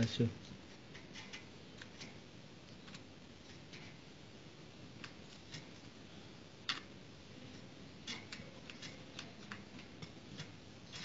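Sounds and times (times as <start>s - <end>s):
low steady hiss: 0.0s - 11.0s.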